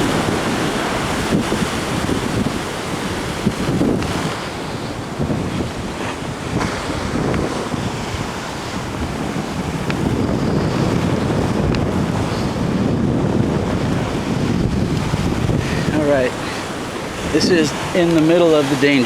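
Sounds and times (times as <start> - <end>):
ocean waves breaking: 0.0 - 19.0
wind buffeting microphone: 0.0 - 19.0.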